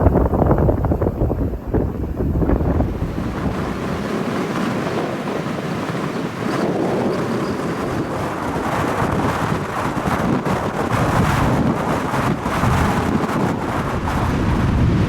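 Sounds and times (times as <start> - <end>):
gale wind buffeting microphone: 0.0 - 15.0
storm waves breaking: 0.0 - 15.0.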